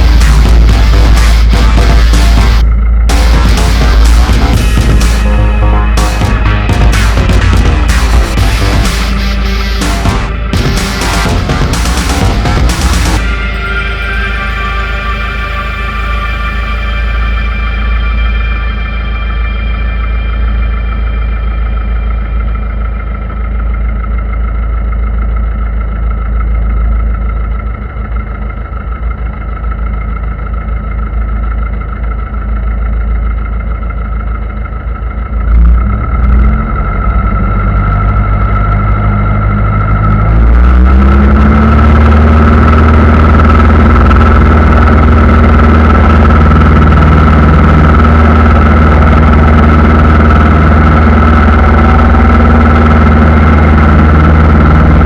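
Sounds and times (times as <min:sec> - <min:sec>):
aircraft engine running: 0:00.0 - 0:55.0.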